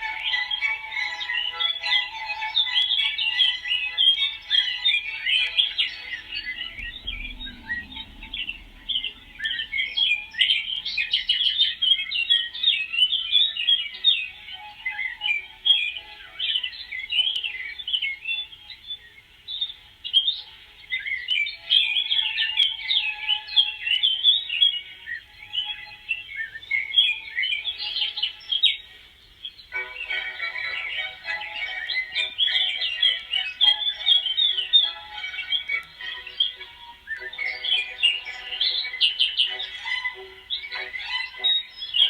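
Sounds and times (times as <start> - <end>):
music: 0.0 - 42.0
small birds chirping: 0.0 - 42.0.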